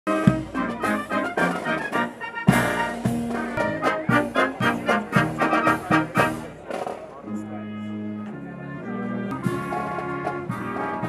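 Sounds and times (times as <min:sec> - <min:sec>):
brass band playing: 0:00.1 - 0:11.0.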